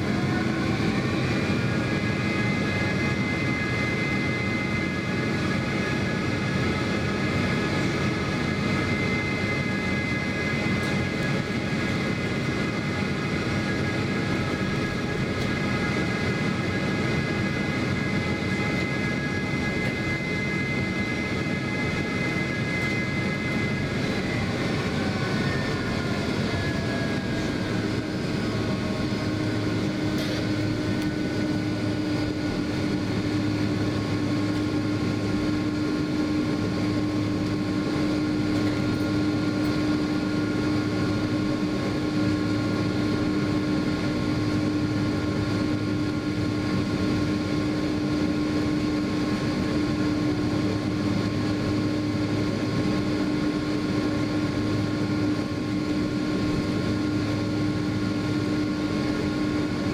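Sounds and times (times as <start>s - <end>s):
high whine gliding down: 0.0s - 59.9s
jet engines rumbling and whining: 0.0s - 59.9s.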